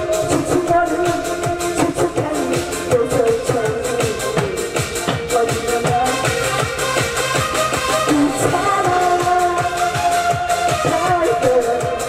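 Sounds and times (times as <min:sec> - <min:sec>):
backing music with held melody: 0:00.0 - 0:12.0.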